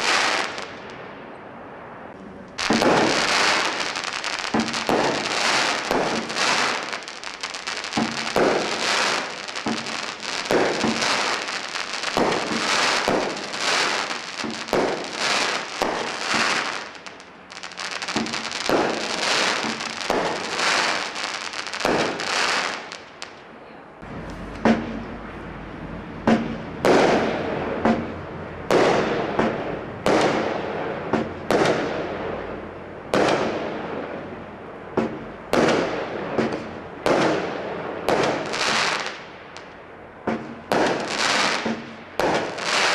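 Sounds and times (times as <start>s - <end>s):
fireworks popping and crackling: 0.0s - 0.9s, 2.5s - 23.5s, 24.1s - 25.2s, 26.3s - 28.1s, 28.7s - 32.4s, 33.1s - 34.1s, 35.0s - 42.9s
firework bangs: 0.0s - 1.1s, 2.5s - 23.4s, 24.0s - 25.4s, 26.2s - 34.3s, 34.9s - 42.9s.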